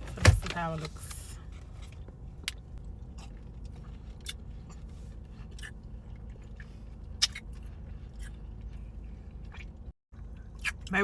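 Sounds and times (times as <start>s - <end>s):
steady low rumble: 0.0s - 11.0s
chewing grapes crunching: 1.8s - 10.9s.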